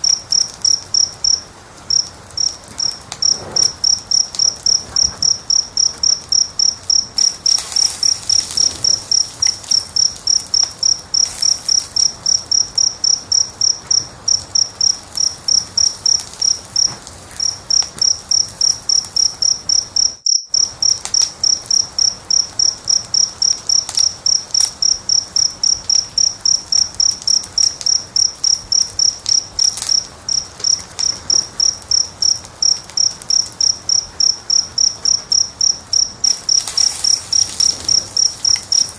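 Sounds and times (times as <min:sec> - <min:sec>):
cricket chirping: 0:00.0 - 0:38.9
wood fire crackling: 0:00.0 - 0:38.9.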